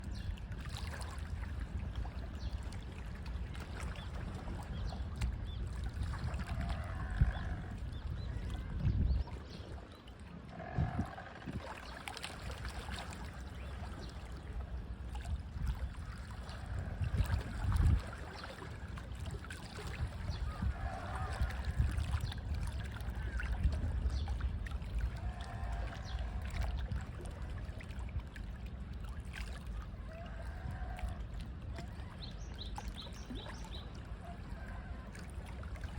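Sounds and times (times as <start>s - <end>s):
small waves lapping on shore: 0.0s - 35.9s.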